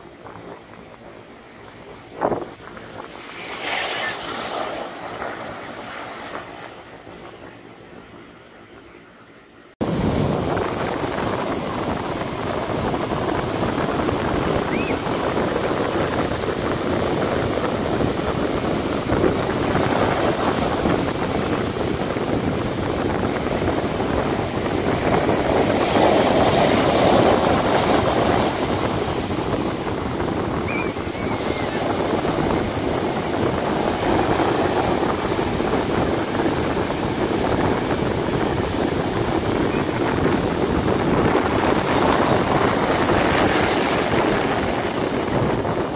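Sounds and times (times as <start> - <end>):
surf breaking on beach: 0.0 - 7.9, 9.8 - 45.9
wind buffeting microphone: 0.0 - 45.9.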